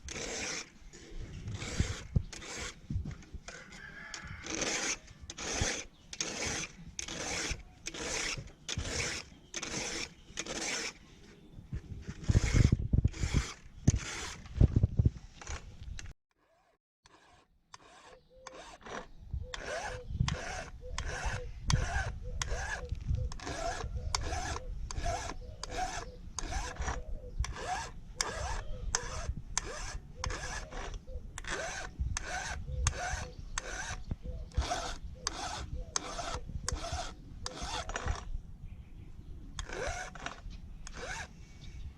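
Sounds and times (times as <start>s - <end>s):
file rasping on saw chain: 0.0s - 2.9s, 3.5s - 11.0s, 12.1s - 14.5s, 16.4s - 38.3s, 39.6s - 41.3s.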